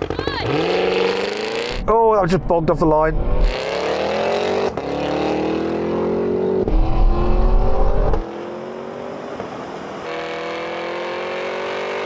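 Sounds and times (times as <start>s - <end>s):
suv engine at full throttle: 0.0s - 12.0s.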